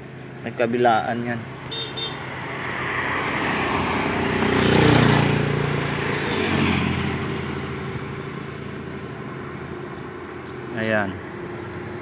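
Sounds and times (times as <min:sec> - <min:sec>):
motor vehicle passing by: 0:01.5 - 0:12.0.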